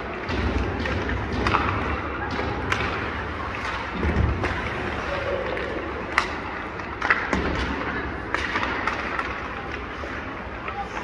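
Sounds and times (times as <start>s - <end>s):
sticks striking pucks: 0.0s - 11.0s.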